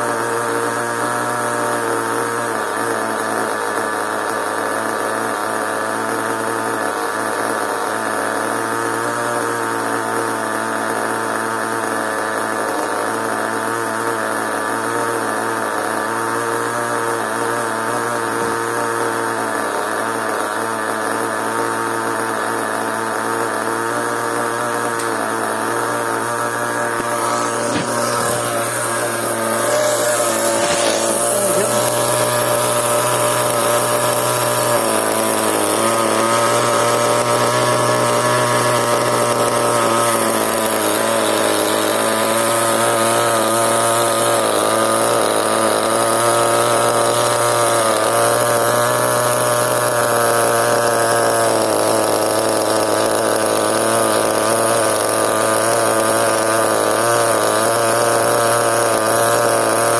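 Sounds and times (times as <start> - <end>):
small nitro engine buzzing: 0.0 - 59.9.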